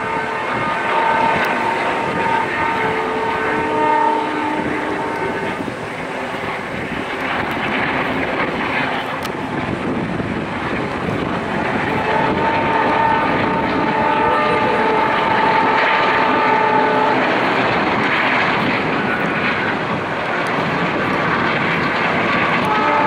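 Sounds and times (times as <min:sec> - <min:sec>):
distant diesel locomotives droning: 0:00.0 - 0:23.0.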